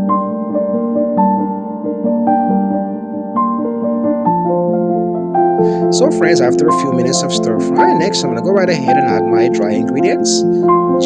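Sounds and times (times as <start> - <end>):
gentle electric piano melody: 0.0 - 11.0.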